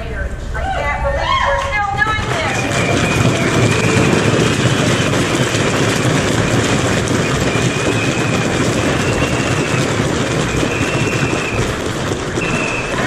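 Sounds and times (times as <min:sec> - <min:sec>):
crowd shouting and cheering: 0:00.5 - 0:13.0.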